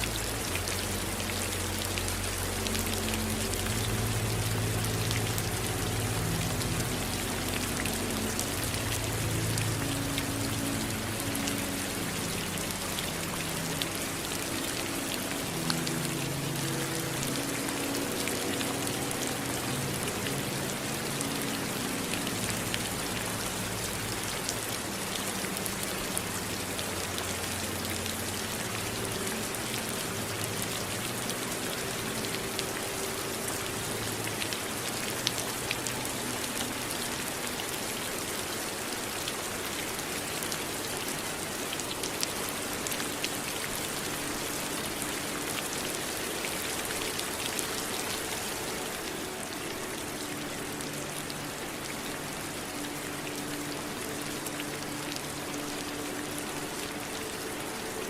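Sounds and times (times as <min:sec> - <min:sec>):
raindrops pattering on a surface: 0:00.0 - 0:58.0.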